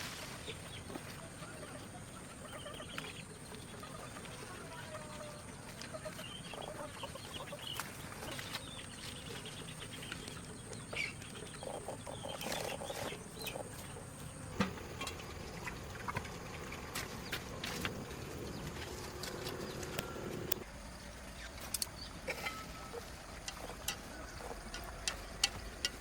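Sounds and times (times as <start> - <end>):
chickens clucking: 0.2 - 20.6, 21.3 - 26.0.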